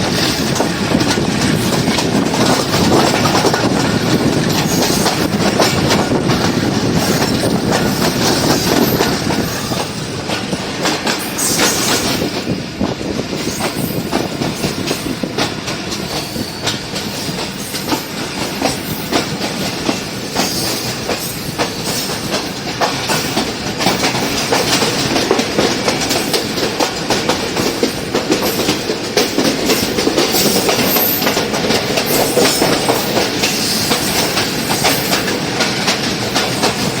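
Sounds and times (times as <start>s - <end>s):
train wheels clattering on rails: 0.0s - 37.0s.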